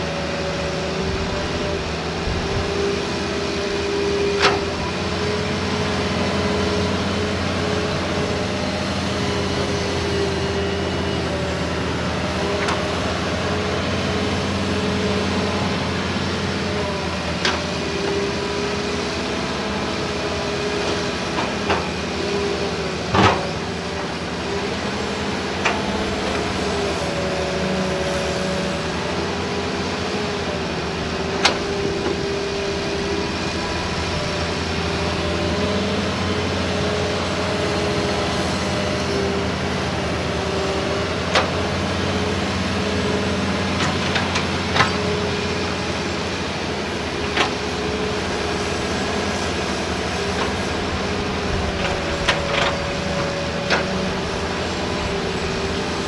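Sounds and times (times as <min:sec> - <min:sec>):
excavator diesel engine under load: 0:00.0 - 0:56.0
second excavator working: 0:00.0 - 0:56.0.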